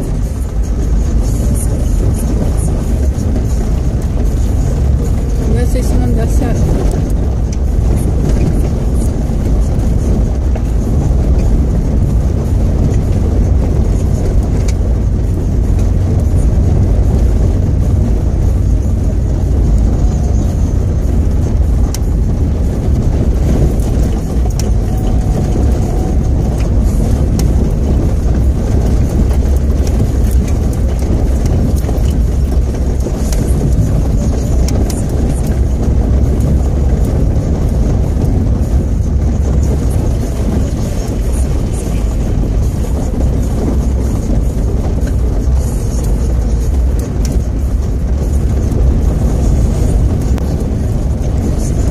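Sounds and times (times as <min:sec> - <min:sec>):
car engine and tyres rumbling on gravel: 0:00.0 - 0:51.9.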